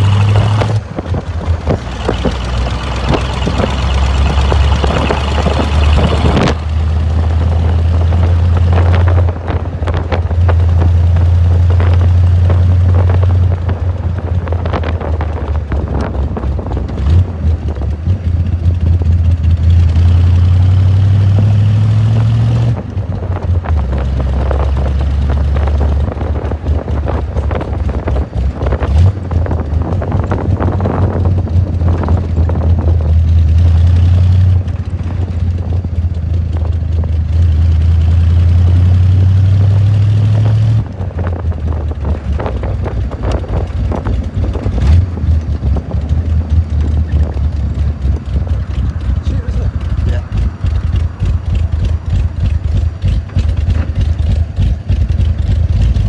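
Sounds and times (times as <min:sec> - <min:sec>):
car engine pulling: 0:00.0 - 0:56.0.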